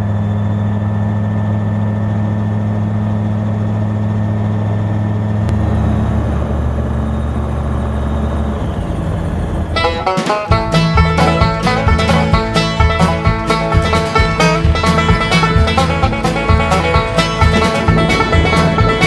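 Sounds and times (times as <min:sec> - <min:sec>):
aircraft engine and propeller droning: 0:00.0 - 0:19.0.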